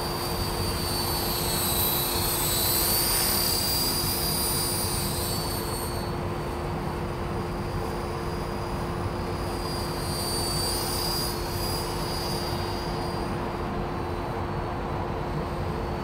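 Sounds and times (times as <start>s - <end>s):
model helicopter whine: 0.0s - 16.0s.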